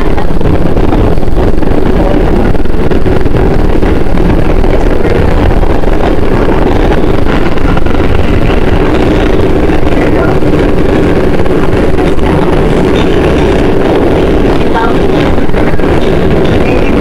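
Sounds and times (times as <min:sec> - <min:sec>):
subway train running through tunnel: 0:00.0 - 0:17.0.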